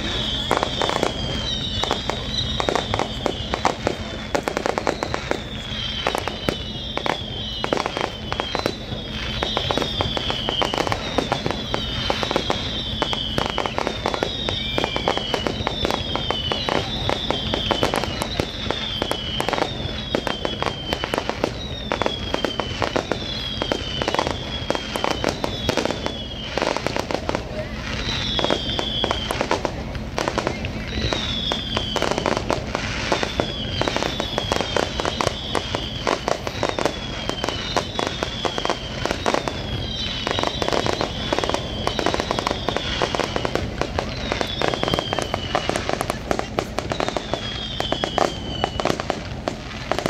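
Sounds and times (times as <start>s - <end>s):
falling whistle: 0.0s - 50.0s
fireworks bangs and crackles: 0.0s - 50.0s.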